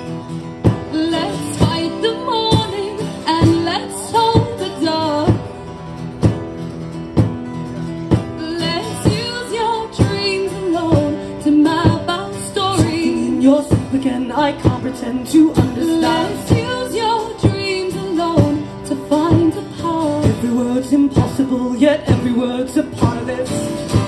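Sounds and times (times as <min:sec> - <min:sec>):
strummed acoustic guitar: 0:00.0 - 0:24.0
woman singing: 0:00.8 - 0:05.5, 0:08.4 - 0:24.0.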